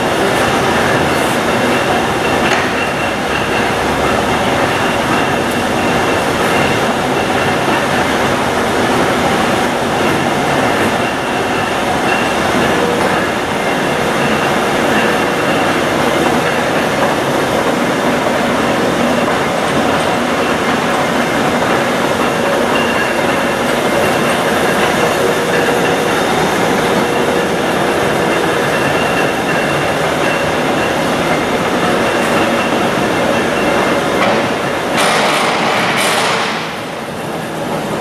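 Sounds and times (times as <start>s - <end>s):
lathe rumbling and rattling: 0.0s - 38.0s.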